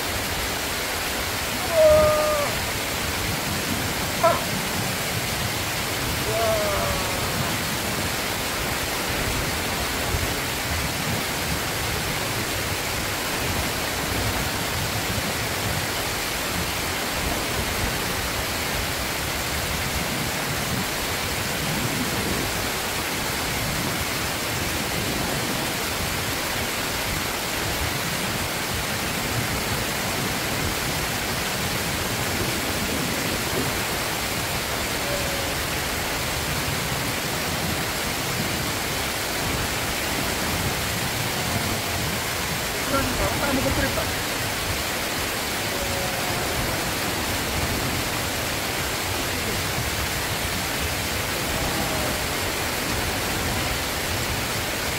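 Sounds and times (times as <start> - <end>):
water rushing over weir: 0.0 - 54.9.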